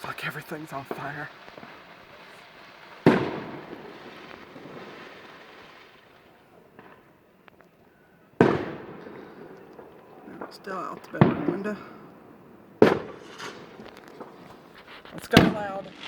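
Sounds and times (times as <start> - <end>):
faint pops: 0.0 - 16.0
firework bangs with rolling echo: 0.0 - 16.0.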